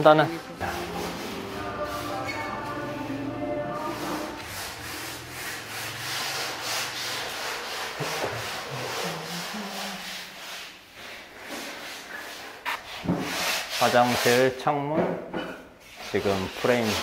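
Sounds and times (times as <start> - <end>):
paintbrush scrubbing on wall: 0.0 - 14.6, 15.8 - 17.0.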